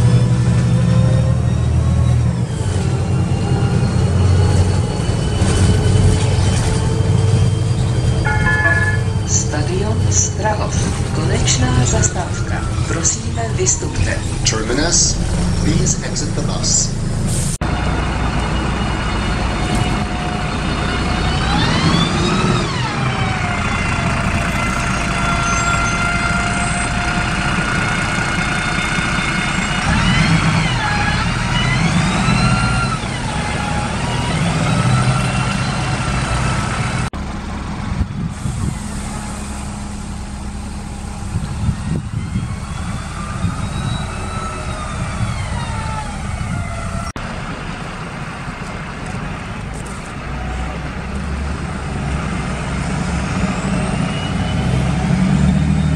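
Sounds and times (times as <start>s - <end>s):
whining engine note: 0.0s - 48.1s
bus engine rumble: 0.0s - 55.9s.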